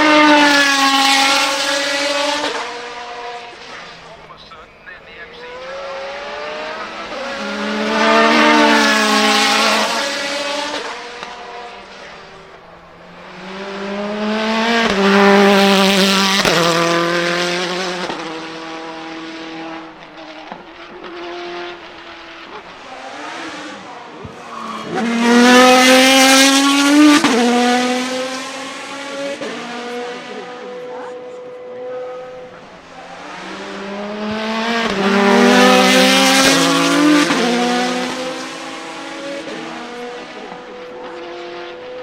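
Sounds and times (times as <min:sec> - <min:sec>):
racing car engine accelerating: 0:00.0 - 0:42.0.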